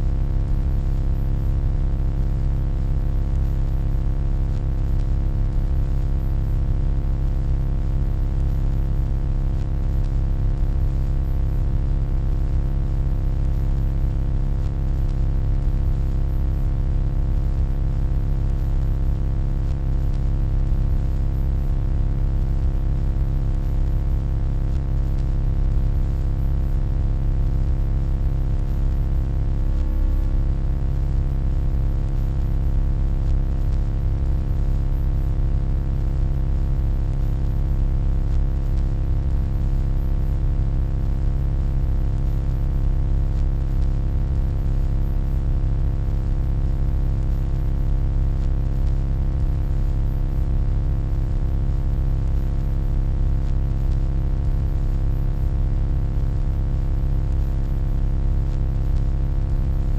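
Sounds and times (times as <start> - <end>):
low electronic hum: 0.0 - 45.7, 48.4 - 49.5, 50.1 - 50.8, 57.3 - 59.9.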